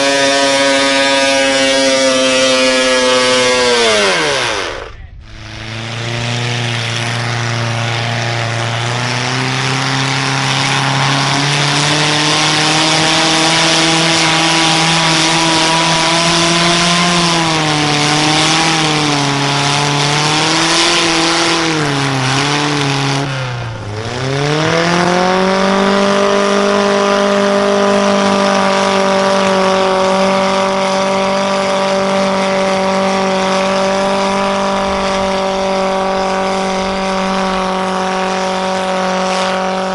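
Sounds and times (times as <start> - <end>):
truck engine at high revs: 0.0 - 39.9.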